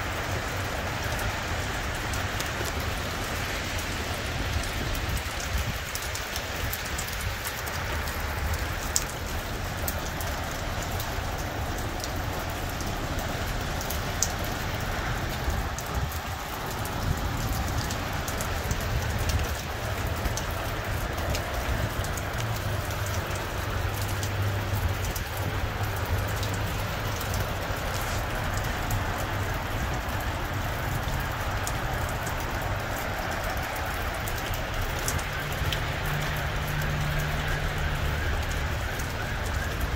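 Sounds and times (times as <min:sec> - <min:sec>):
rain falling on pavement: 0:00.0 - 0:39.9.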